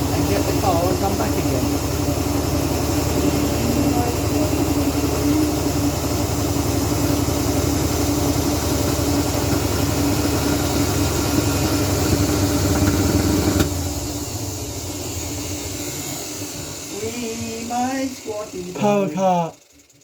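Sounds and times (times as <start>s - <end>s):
washing machine running: 0.0s - 20.0s.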